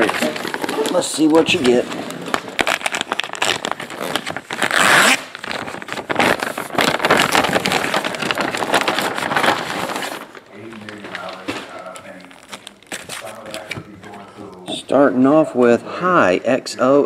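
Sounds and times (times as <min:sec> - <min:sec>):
plastic packaging ripping: 0:00.0 - 0:14.7
plastic packaging crinkling: 0:00.0 - 0:14.8.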